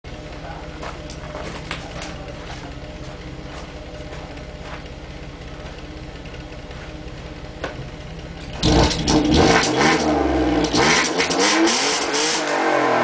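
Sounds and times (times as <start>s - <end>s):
car engine idling: 0.1s - 11.4s.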